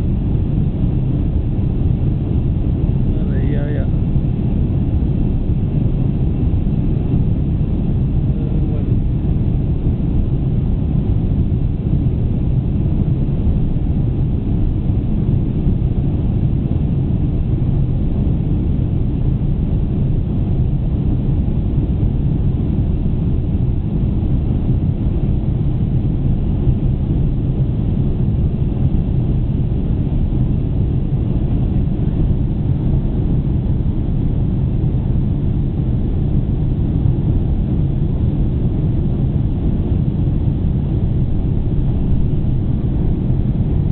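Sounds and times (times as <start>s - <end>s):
air rushing along fuselage: 0.0s - 43.9s
jet engines rumbling: 0.0s - 43.9s.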